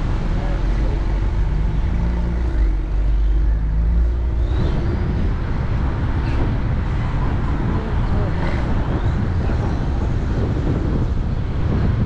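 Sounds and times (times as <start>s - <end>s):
car tyres and engine rumble: 0.0s - 12.0s
traffic: 0.0s - 12.0s.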